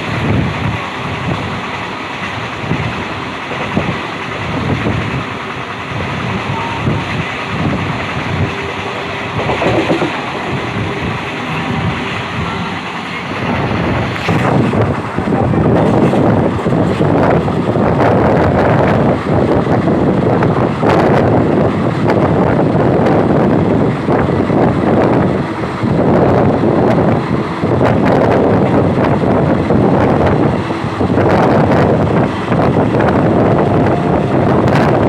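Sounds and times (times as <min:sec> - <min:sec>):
train wheels rumbling on rail: 0:00.0 - 0:35.0
wind buffeting microphone: 0:00.0 - 0:35.0.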